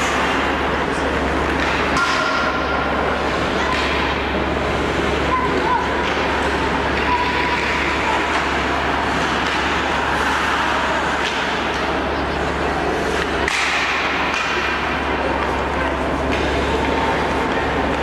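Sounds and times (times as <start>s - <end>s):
low hum and hiss of hall: 0.0s - 18.0s.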